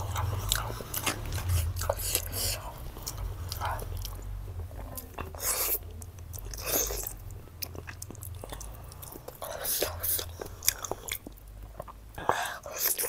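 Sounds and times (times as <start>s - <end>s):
chewing and biting food: 0.0s - 13.0s.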